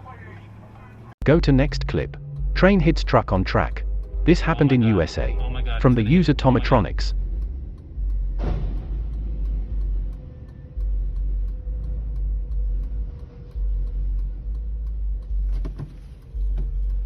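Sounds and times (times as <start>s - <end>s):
car rumble on the road: 0.0s - 17.0s.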